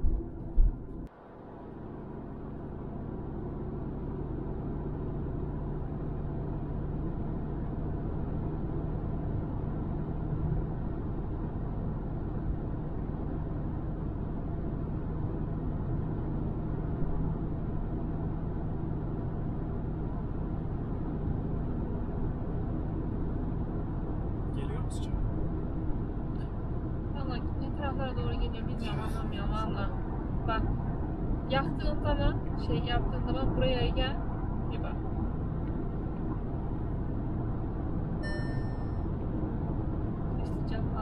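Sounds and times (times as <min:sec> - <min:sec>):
faint engine hum: 0:00.0 - 0:41.0
tyres rumbling on asphalt: 0:00.0 - 0:41.0.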